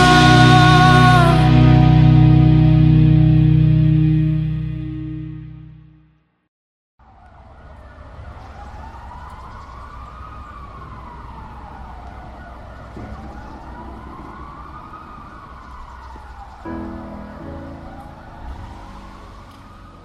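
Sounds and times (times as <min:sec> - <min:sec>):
siren wailing: 0:00.0 - 0:03.7, 0:07.0 - 0:20.0
traffic rumble: 0:00.0 - 0:04.0, 0:07.0 - 0:20.0.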